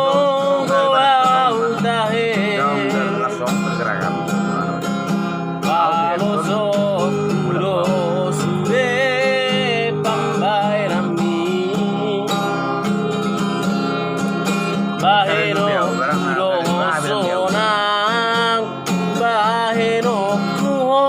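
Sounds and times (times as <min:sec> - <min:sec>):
person singing with vibrato: 0:00.0 - 0:21.0
strummed acoustic guitar: 0:00.0 - 0:21.0.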